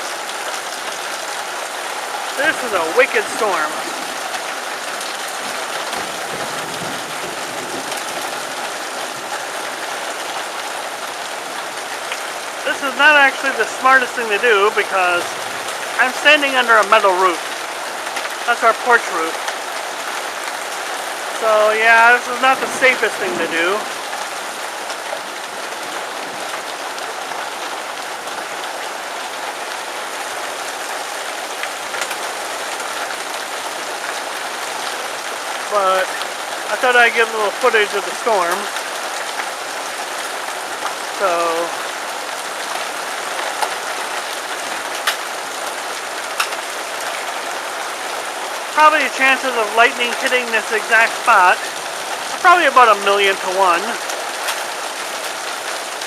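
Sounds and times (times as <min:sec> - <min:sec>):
heavy rain pouring: 0:00.0 - 0:56.0
rain drumming on a metal roof: 0:00.0 - 0:56.0.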